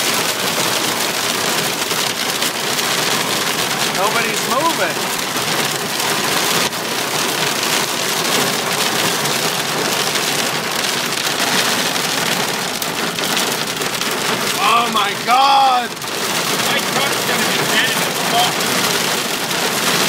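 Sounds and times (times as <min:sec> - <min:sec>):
rain and hail on car roof: 0:00.0 - 0:20.0.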